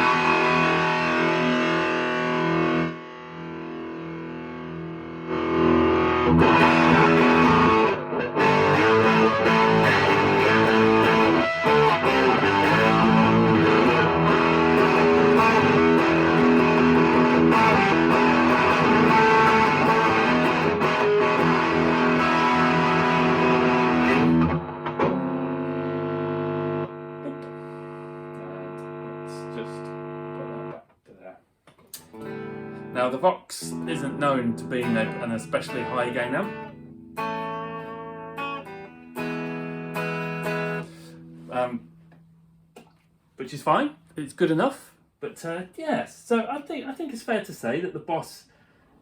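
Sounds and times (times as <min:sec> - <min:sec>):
distorted electric guitar: 0:00.0 - 0:30.8, 0:32.0 - 0:42.3.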